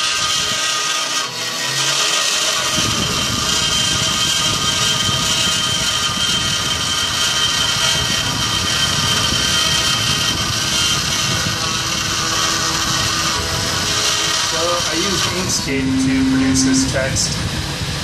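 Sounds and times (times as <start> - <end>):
bit cutting into wood: 0.0 - 17.0
router spindle whine: 0.0 - 18.0.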